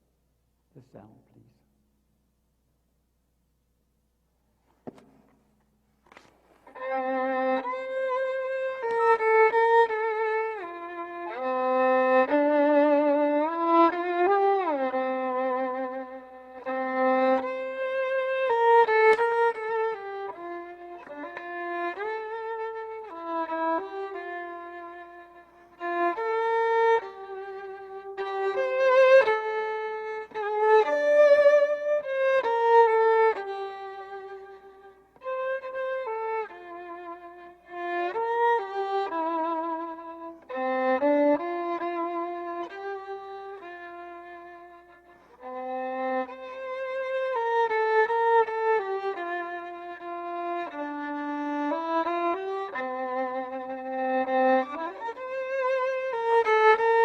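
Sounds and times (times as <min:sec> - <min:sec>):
violin playing slow melody: 0:06.1 - 0:57.0.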